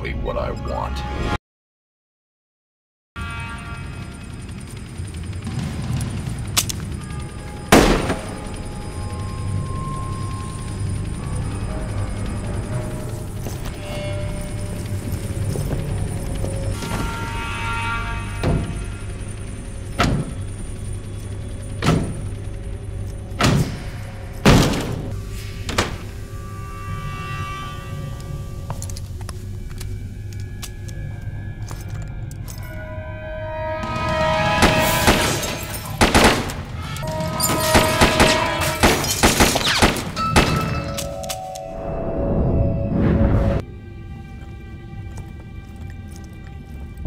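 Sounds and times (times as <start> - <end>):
tense film score music: 0.0 - 1.4, 3.2 - 47.0
steady low drone: 3.2 - 39.4, 40.0 - 47.0.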